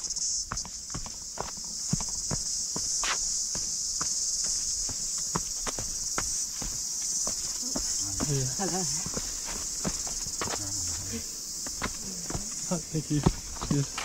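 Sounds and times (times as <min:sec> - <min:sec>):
high-pitched insect chorus: 0:00.0 - 0:14.0
running footsteps on dirt: 0:00.0 - 0:14.0.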